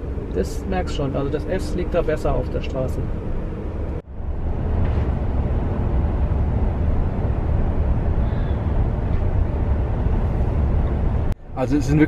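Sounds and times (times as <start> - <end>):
muffled tyre and road noise: 0.0 - 12.0.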